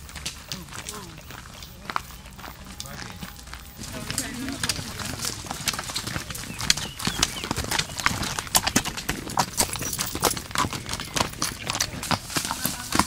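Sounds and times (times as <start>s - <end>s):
horse hooves on gravel: 0.0s - 13.0s.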